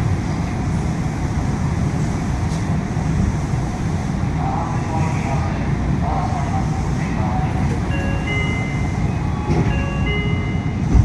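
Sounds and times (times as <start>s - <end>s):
air-conditioning hiss: 0.0s - 11.0s
monorail car rumble: 0.0s - 11.0s.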